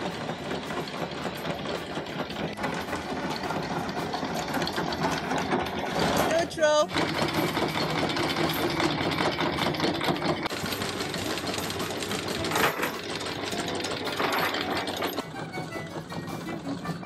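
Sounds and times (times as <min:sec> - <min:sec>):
anchor chain rattling: 0:00.0 - 0:17.0.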